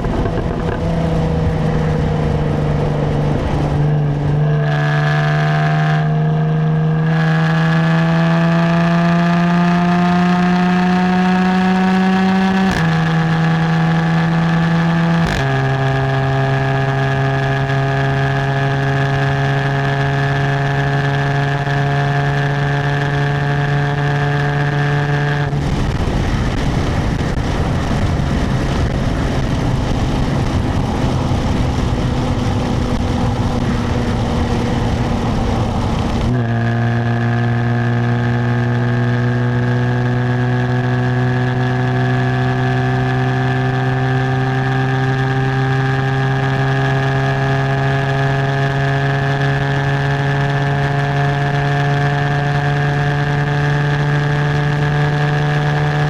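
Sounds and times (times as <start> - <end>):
car exhaust drone: 0.0 - 56.0
road and wind noise: 0.0 - 56.0.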